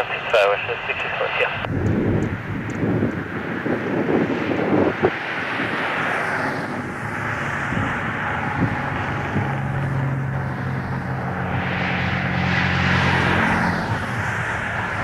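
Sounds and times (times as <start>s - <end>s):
distant jet engines rushing: 0.0s - 15.0s.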